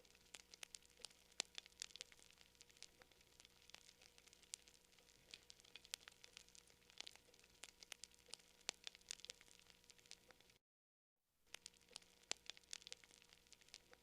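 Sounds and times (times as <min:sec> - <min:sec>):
campfire crackling: 0:00.0 - 0:10.6, 0:11.5 - 0:14.0.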